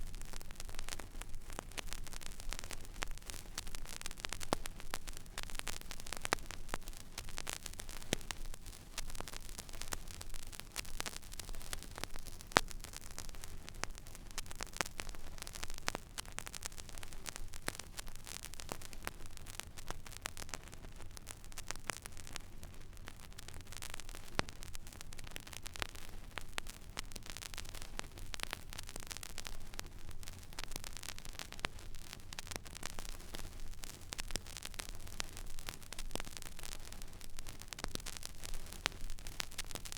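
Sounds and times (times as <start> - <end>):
vinyl surface hiss and crackles: 0.0 - 39.9.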